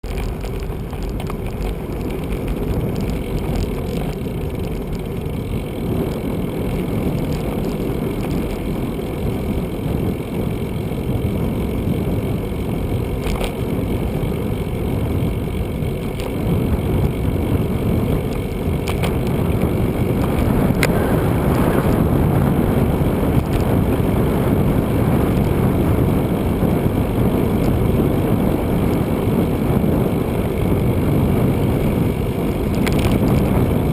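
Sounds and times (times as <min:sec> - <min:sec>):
bicycle ticking: 0:00.0 - 0:33.9
street traffic rumble: 0:00.0 - 0:33.9.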